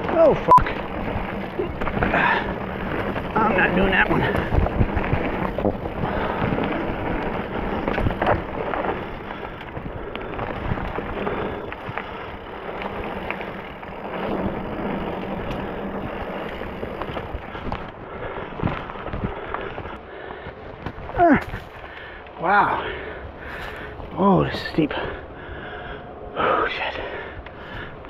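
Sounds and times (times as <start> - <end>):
bike rattling and knocking: 0.0 - 25.0
bike tyres on dirt trail: 0.0 - 28.0.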